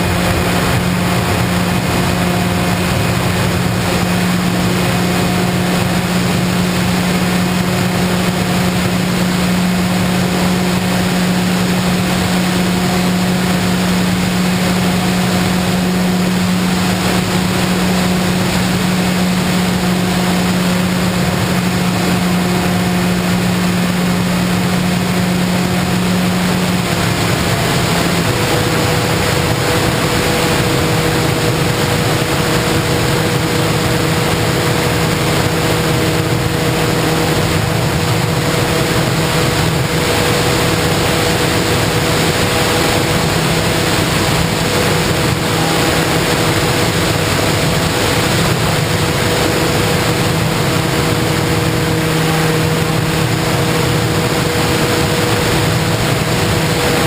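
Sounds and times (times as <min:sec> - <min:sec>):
model aircraft motor and propeller: 0:00.0 - 0:57.0.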